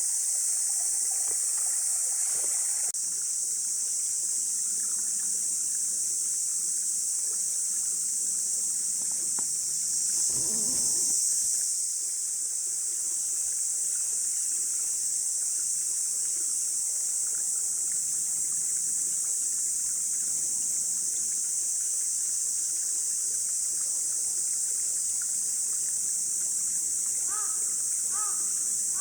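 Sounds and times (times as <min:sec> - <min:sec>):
insects droning: 0:00.0 - 0:29.0
small stream running: 0:00.0 - 0:29.0.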